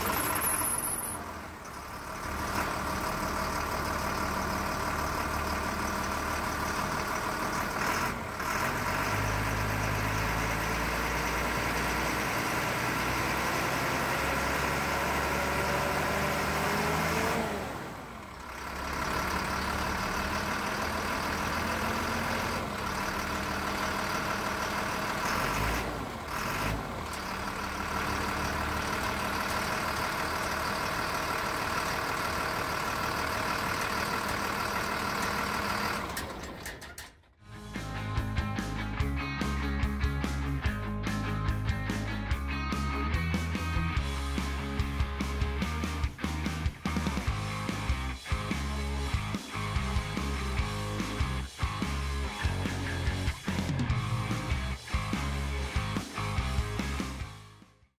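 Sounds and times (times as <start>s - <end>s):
diesel truck engine revving: 0.0s - 57.7s.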